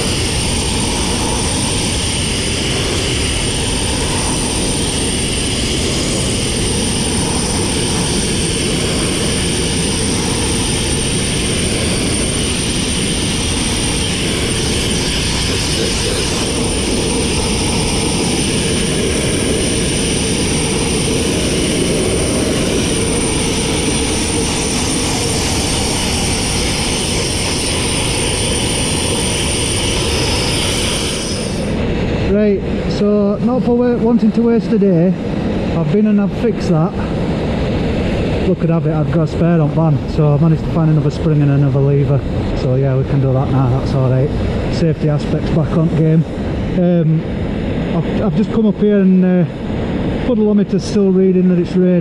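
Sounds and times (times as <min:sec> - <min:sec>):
abrasive blasting rush: 0:00.0 - 0:52.0.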